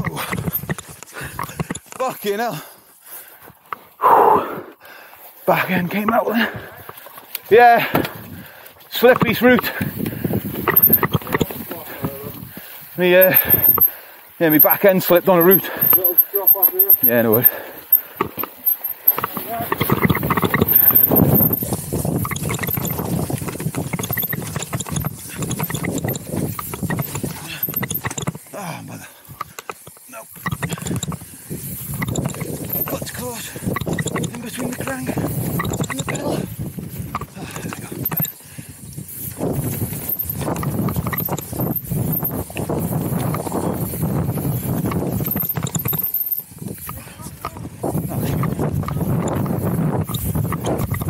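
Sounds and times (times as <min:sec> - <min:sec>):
bike rattling: 0:00.0 - 0:04.0, 0:05.2 - 0:51.0
tyres crunching on dirt: 0:05.0 - 0:51.0.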